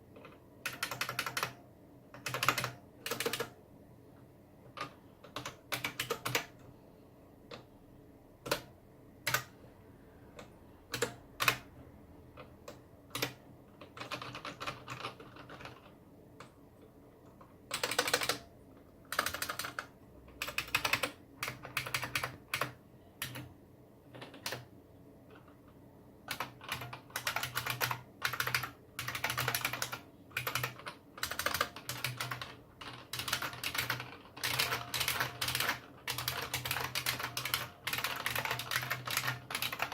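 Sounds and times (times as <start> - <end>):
mechanical keyboard typing clicks: 0.1 - 3.6, 4.7 - 6.6, 8.4 - 9.6, 10.4 - 11.7, 12.4 - 16.6, 17.2 - 18.5, 19.1 - 23.5, 24.1 - 24.7, 26.3 - 39.9.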